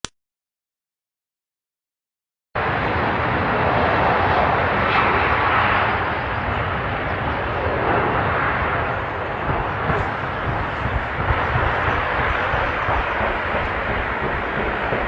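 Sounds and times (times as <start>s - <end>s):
jet aircraft engine noise: 2.6s - 15.0s.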